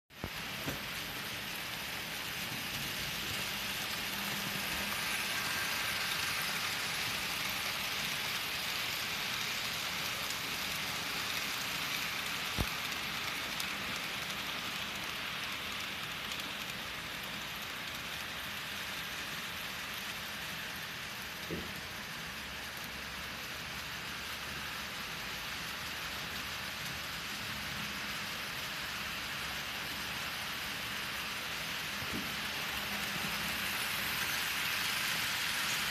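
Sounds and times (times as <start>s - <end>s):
model train wheels on rails: 0.1s - 35.9s.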